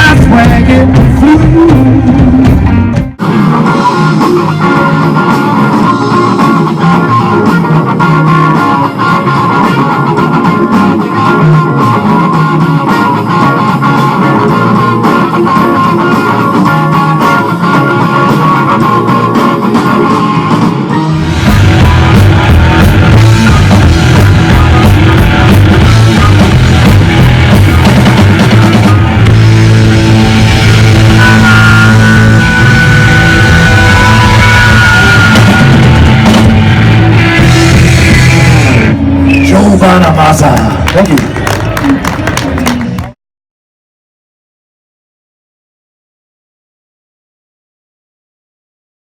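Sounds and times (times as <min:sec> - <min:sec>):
instrumental rock music: 0:00.0 - 0:43.2.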